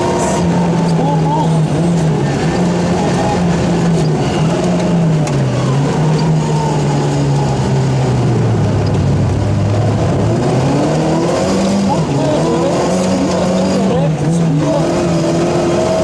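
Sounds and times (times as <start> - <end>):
rally car engine revving: 0.0 - 16.0
road and tyre noise: 0.0 - 16.0.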